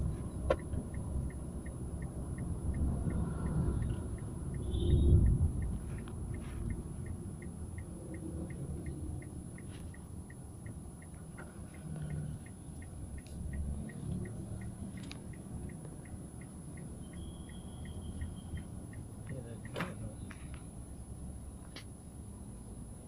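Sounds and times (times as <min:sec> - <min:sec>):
car interior rumble: 0:00.0 - 0:23.0
faint light ticking: 0:00.4 - 0:20.9.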